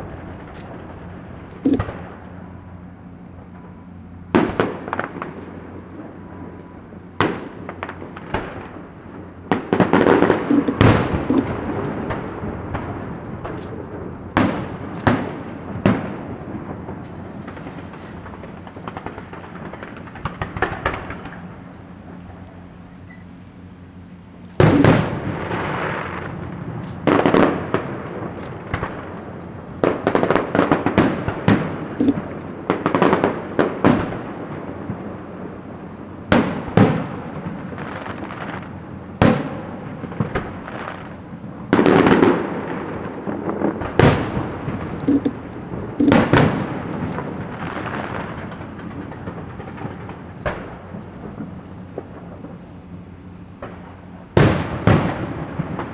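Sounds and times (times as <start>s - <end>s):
faint firework crackling: 0.0s - 55.9s
firework bursts with crackling tail: 0.0s - 55.9s.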